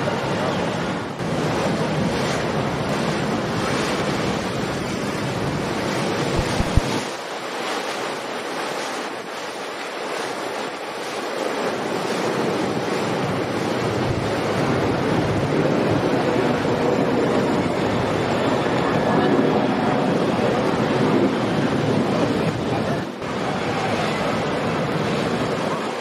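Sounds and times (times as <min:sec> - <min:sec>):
churning boat wake: 0:00.0 - 0:26.0
wind buffeting microphone: 0:00.0 - 0:26.0.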